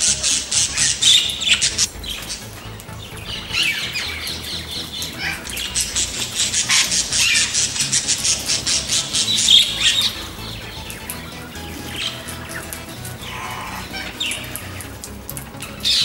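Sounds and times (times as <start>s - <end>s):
birds squawking: 0.0s - 16.0s
harsh bird chattering: 0.0s - 16.0s.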